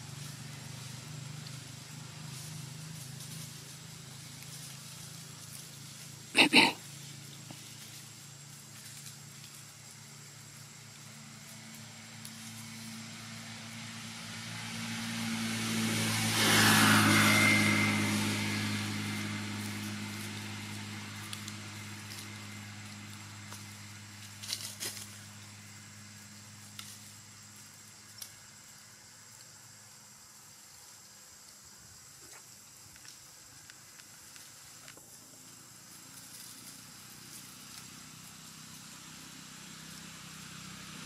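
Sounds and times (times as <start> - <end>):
motor vehicle passing: 0.0 - 30.7, 34.0 - 41.0
low engine hum: 0.0 - 41.0.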